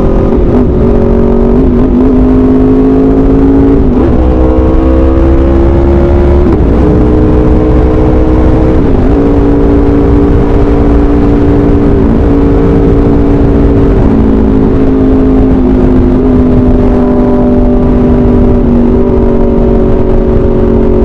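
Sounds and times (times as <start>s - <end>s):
motorcycle engine revving: 0.0s - 21.0s
wind rumble on microphone: 0.0s - 21.0s.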